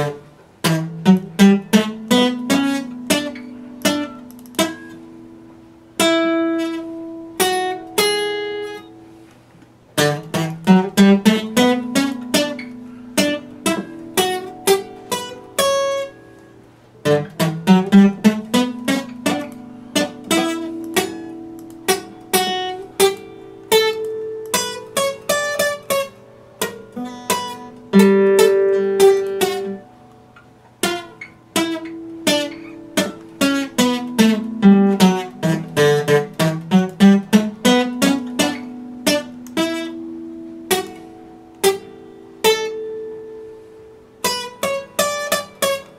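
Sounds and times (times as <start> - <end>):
fingerstyle acoustic guitar: 0.0 - 45.9.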